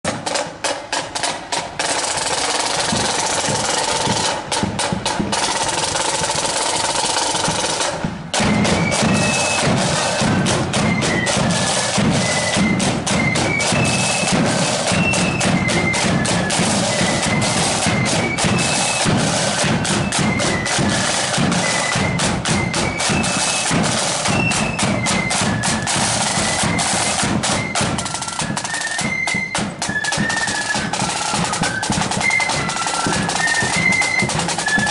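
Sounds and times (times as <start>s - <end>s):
snare drums: 0.0s - 34.9s
flutes playing high tune: 5.4s - 34.9s.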